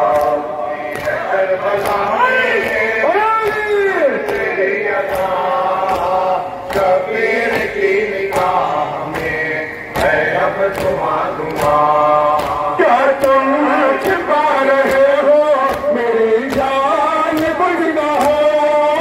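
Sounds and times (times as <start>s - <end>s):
men chanting in unison: 0.0s - 19.0s
hands slapping chests: 0.1s - 13.4s, 14.0s - 18.4s.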